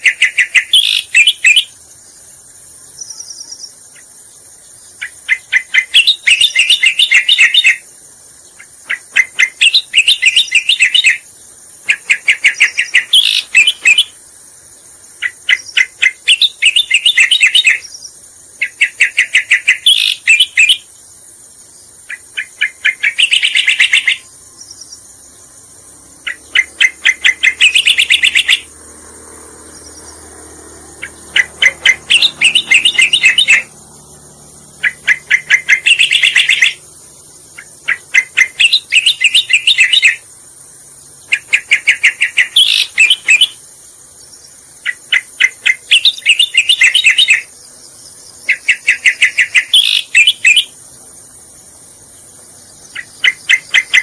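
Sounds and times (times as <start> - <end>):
bird chattering song: 0.0 - 28.8, 29.4 - 54.0
high-pitched hiss: 0.0 - 54.0.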